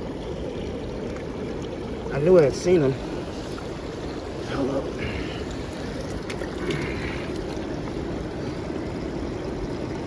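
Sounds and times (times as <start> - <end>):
water: 0.0 - 10.0
wind: 0.0 - 10.0.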